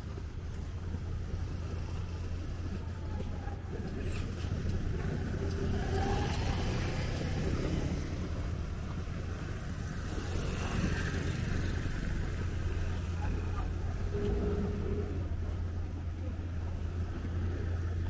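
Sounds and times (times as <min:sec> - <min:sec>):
passing scooters and cars: 0:00.0 - 0:18.0.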